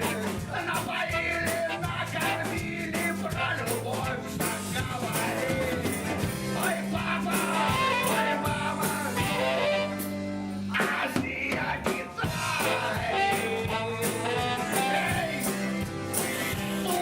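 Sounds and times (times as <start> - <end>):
live rock band playing: 0.0 - 17.0
steady drum beat: 0.0 - 17.0.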